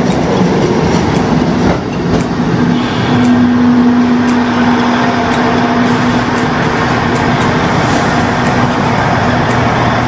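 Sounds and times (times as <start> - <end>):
train engine hum: 0.0 - 10.0
train wheels clicking: 0.0 - 10.0.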